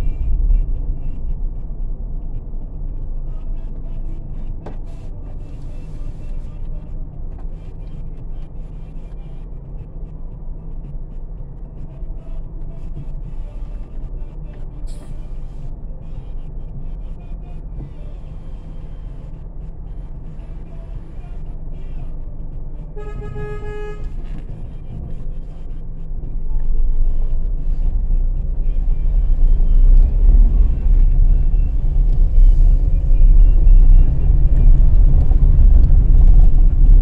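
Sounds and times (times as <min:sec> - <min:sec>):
car engines idling: 0:00.0 - 0:37.0.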